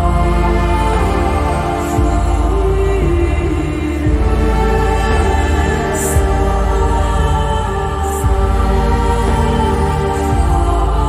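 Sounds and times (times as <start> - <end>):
ambient synth pad music: 0.0 - 11.0.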